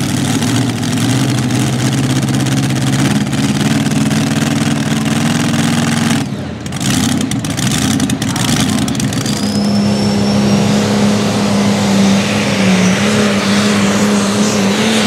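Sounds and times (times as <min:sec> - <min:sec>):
tractor engine idling: 0:00.0 - 0:14.9.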